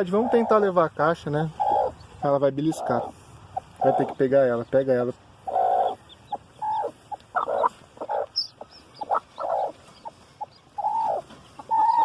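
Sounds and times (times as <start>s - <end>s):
hen squawking: 0.0s - 0.8s, 1.4s - 4.3s, 5.4s - 9.8s, 10.4s - 12.0s
chicks peeping: 0.0s - 12.0s.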